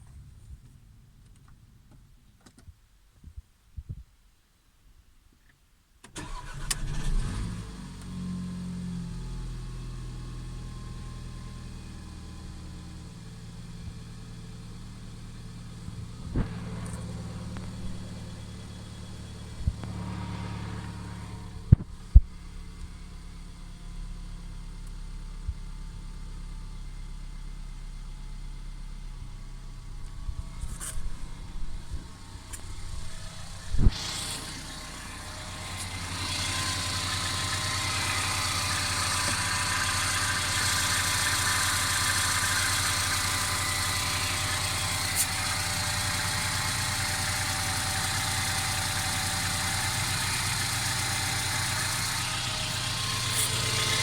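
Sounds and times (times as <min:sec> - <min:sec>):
car engine starting and idling: 0:06.0 - 0:54.0.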